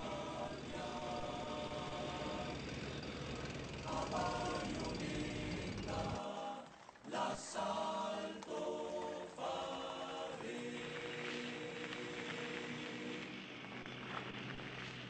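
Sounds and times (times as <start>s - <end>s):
choir singing held notes: 0.0s - 13.8s.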